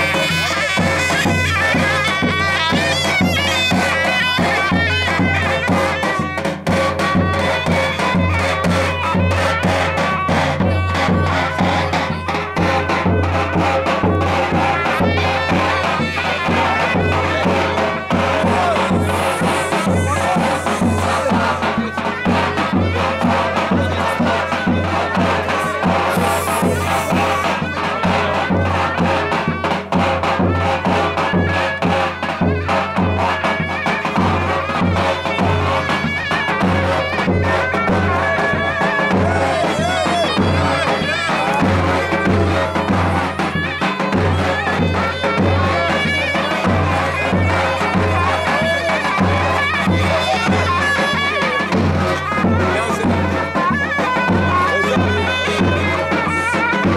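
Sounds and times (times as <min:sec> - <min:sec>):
reedy wind instrument melody: 0:00.0 - 0:56.9
steady drum beat: 0:00.0 - 0:56.9.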